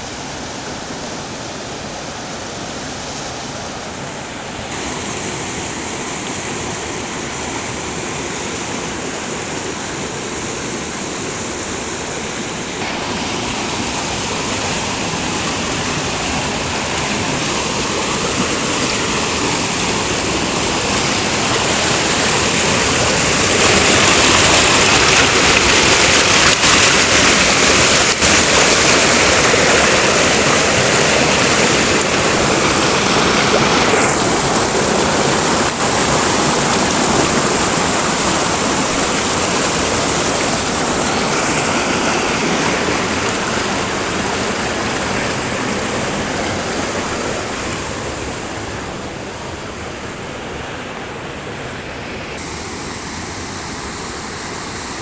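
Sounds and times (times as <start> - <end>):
river rapids rushing over boulders: 0.0 - 55.0.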